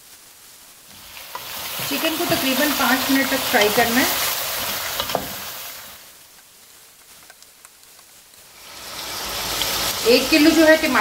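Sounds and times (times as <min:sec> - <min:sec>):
chicken frying in hot oil: 0:00.0 - 0:07.2, 0:07.9 - 0:11.0.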